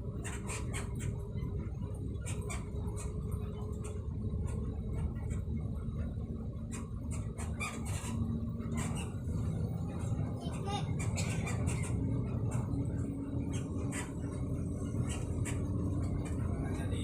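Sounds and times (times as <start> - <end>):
small clicks and squeaks: 0.0 - 16.8
faint engine hum: 0.0 - 17.0
vehicle interior rumble: 0.0 - 17.0.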